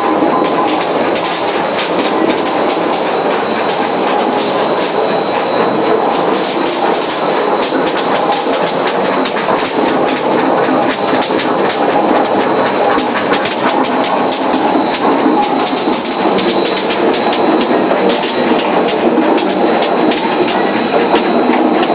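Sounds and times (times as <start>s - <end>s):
olives rattling through machine: 0.0s - 21.9s.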